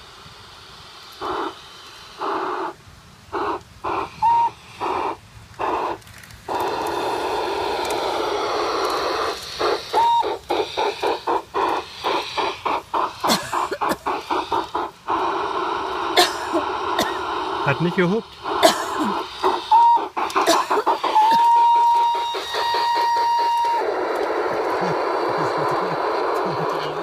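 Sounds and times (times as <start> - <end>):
steam hissing: 0.0 - 27.0
steam locomotive chuffs from speaker: 0.0 - 27.0.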